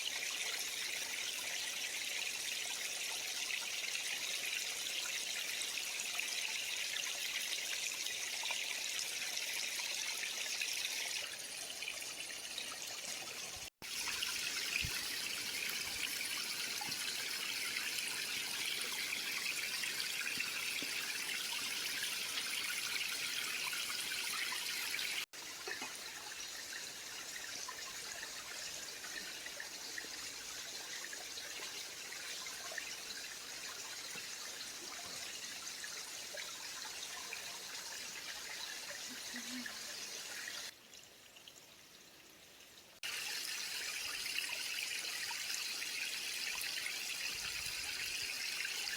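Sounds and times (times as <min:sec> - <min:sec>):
creek water trickling: 0:00.0 - 0:48.9.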